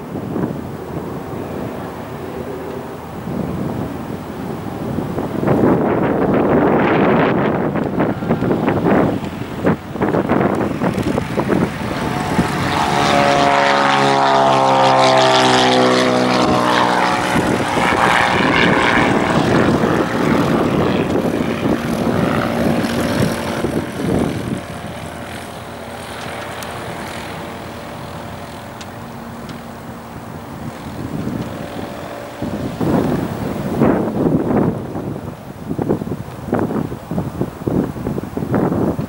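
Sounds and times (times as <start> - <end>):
propeller plane engine passing: 0.0 - 39.0.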